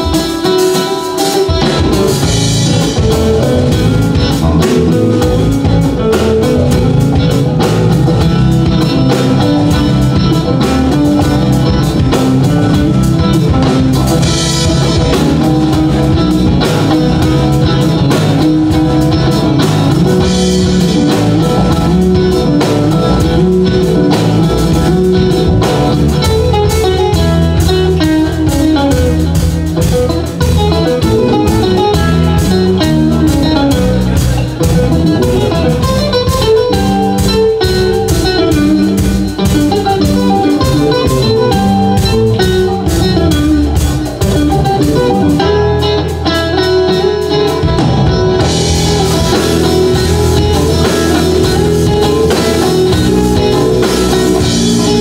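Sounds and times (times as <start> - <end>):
drum kit: 0.0 - 55.0
electric bass: 0.0 - 55.0
electric guitar lead: 0.0 - 55.0.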